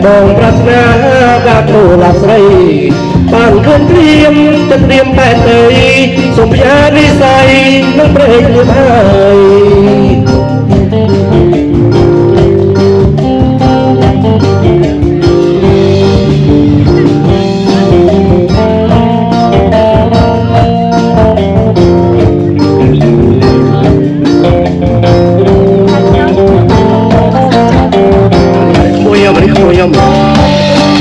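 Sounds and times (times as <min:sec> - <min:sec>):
bass: 0:00.0 - 0:31.0
guitar melody: 0:00.0 - 0:31.0
steady drum beat: 0:00.0 - 0:31.0.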